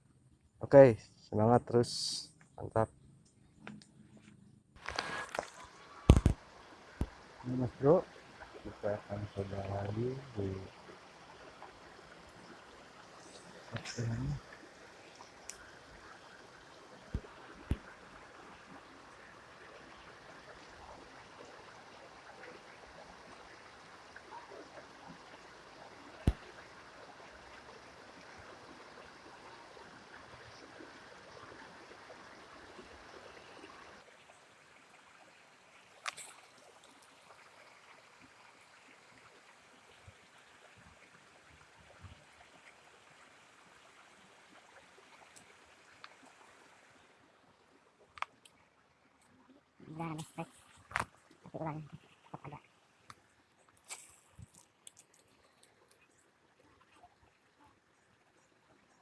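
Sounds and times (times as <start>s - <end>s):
water trickling: 4.8s - 59.0s.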